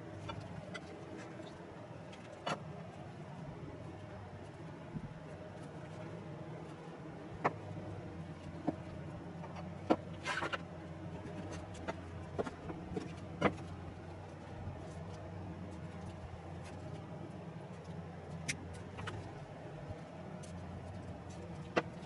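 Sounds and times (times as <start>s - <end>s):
low room hum: 0.0s - 22.0s
small clicks and ticks: 0.1s - 22.0s.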